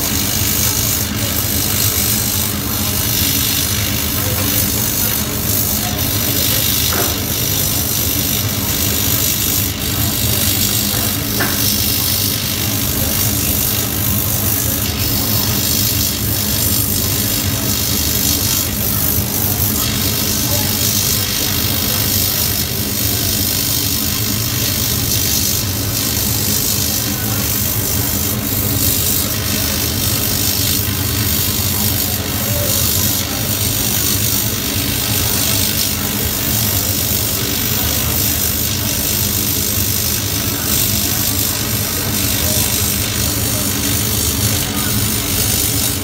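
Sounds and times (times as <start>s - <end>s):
hiss: 0.0s - 46.0s
laser cutting machine humming: 0.0s - 46.0s.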